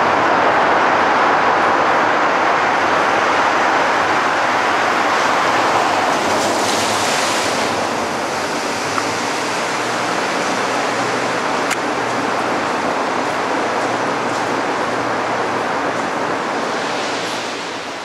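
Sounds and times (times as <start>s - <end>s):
car road noise echoing in tunnel: 0.0s - 18.0s.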